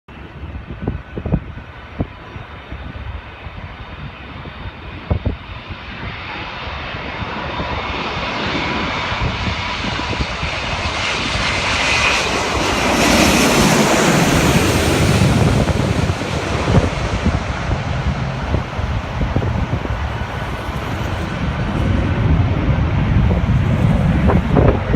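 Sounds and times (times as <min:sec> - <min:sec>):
jet engines roaring: 0:00.1 - 0:24.9.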